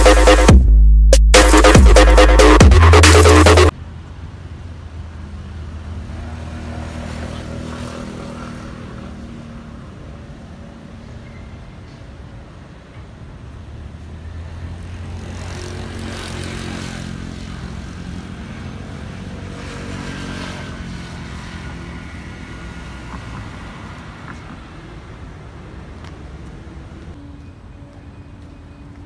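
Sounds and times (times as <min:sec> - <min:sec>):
passing vehicles engine and tyre noise: 0:01.6 - 0:29.0.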